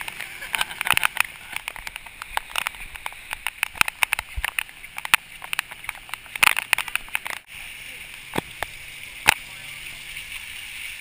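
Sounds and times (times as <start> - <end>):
heavy rain hissing: 0.0 - 11.0
raindrops tapping close: 0.0 - 11.0.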